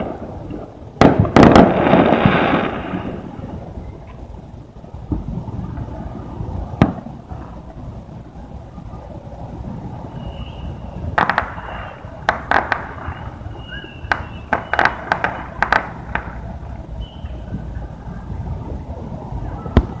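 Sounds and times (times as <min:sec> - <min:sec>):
fireworks bangs: 0:00.0 - 0:20.0
low background rumble: 0:00.0 - 0:20.0.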